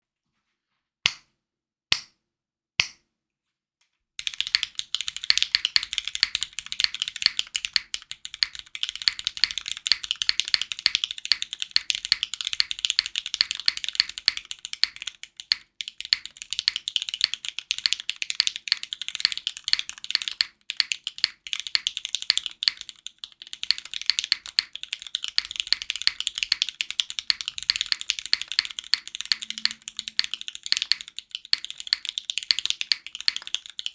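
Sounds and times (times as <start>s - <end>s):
mechanical keyboard typing: 4.2s - 33.9s.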